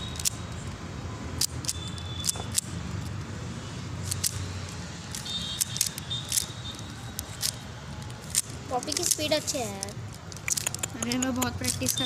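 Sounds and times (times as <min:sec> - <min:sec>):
puzzle cube plastic clicking: 0:00.0 - 0:00.8, 0:01.4 - 0:03.2, 0:04.0 - 0:12.0.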